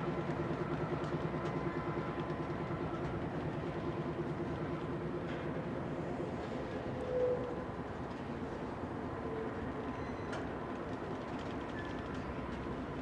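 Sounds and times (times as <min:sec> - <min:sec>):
diesel locomotive drone: 0:00.0 - 0:13.0
train wheels rumbling on rails: 0:00.0 - 0:13.0.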